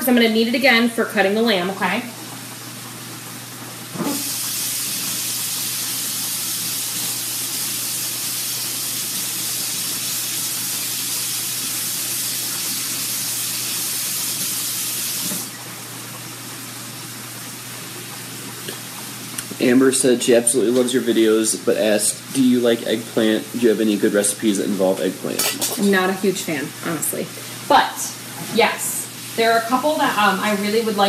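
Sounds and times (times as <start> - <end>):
tap water running into sink: 2.2 - 31.0.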